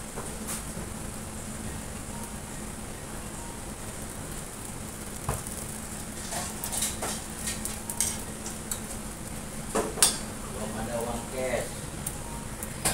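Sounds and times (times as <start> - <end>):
rice sizzling in a pan: 0.5 - 12.9.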